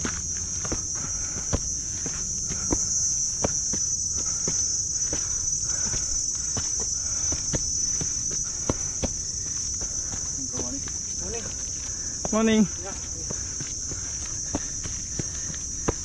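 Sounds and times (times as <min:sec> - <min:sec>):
footsteps on dirt and leaves: 0:00.0 - 0:16.0
high-pitched insect drone: 0:00.0 - 0:16.0.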